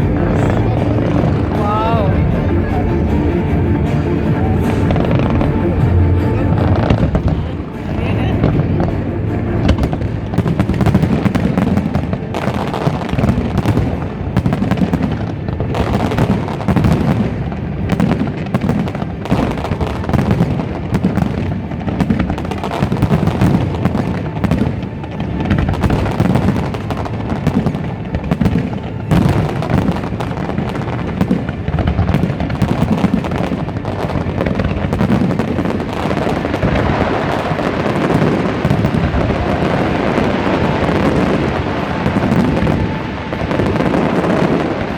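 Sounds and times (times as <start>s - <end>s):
fireworks bangs and booms: 0.0s - 44.9s.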